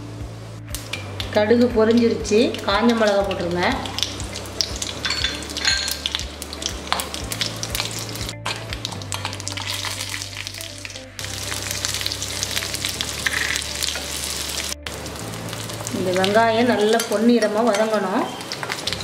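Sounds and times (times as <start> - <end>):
hot oil sizzling and popping: 0.0 - 19.0.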